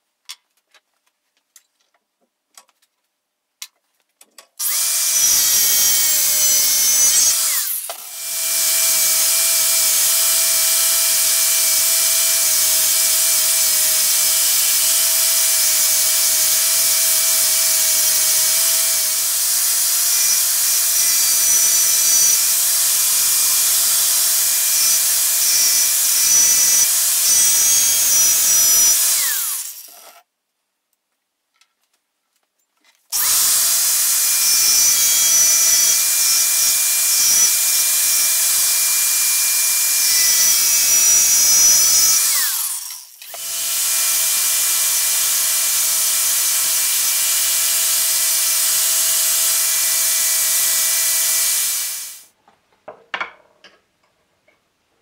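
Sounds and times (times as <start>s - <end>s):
angle grinder whining on metal: 4.6s - 30.2s, 33.1s - 52.3s.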